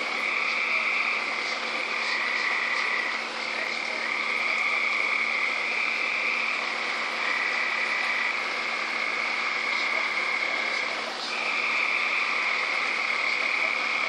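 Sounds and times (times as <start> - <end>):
chorus of high-pitched frog calls: 0.0 - 14.0.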